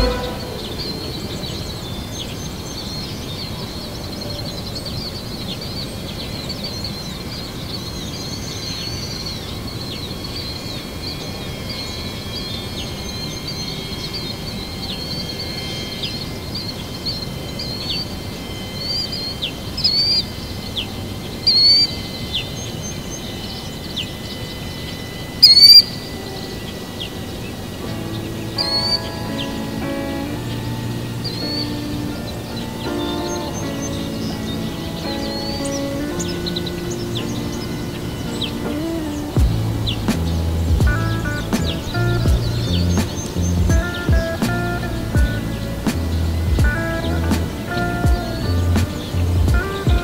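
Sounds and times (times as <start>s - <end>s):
birds chirping: 0.0s - 50.0s
steady outdoor hiss: 0.0s - 50.0s.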